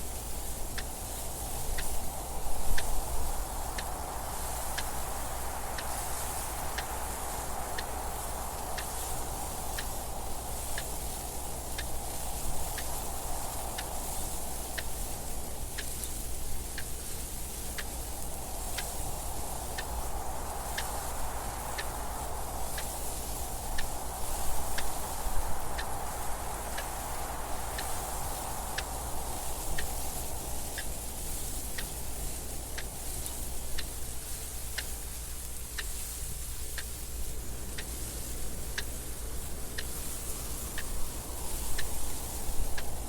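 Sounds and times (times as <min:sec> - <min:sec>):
soft wind: 0:00.0 - 0:43.0.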